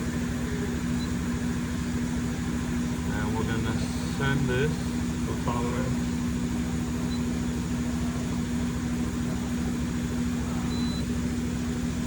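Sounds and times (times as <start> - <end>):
milling machine hum: 0.0 - 12.0.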